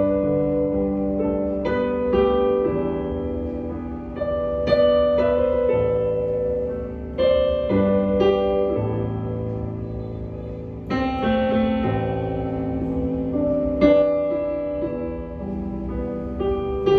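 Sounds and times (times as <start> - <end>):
piano playing slow chords: 0.0 - 16.9.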